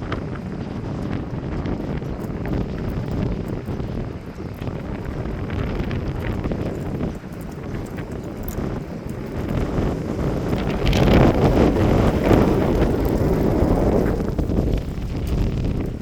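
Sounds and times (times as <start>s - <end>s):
strong gusting wind: 0.0s - 16.0s.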